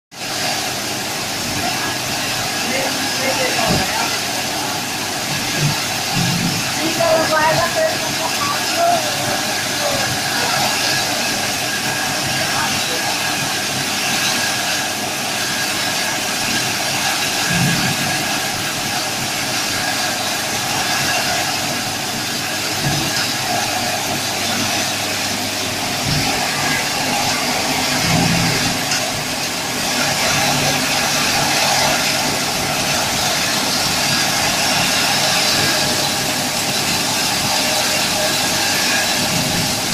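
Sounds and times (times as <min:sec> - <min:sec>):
machine whirring and hissing: 0:00.2 - 0:39.9.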